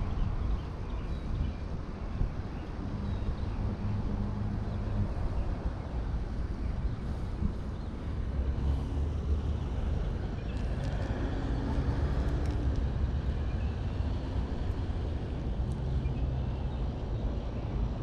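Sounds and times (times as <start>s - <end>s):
rumble of passing cars: 0.0s - 18.0s
vehicle engine hum: 2.9s - 18.0s.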